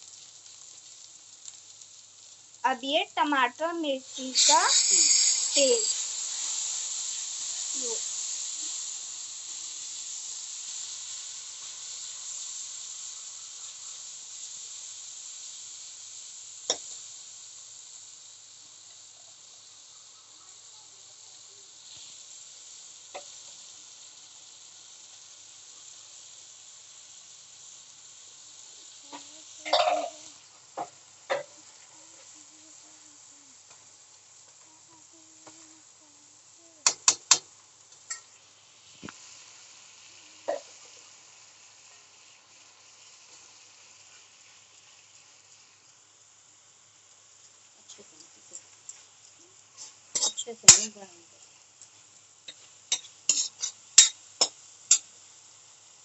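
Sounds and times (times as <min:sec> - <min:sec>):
masala sizzling in hot oil: 0:00.0 - 0:56.0.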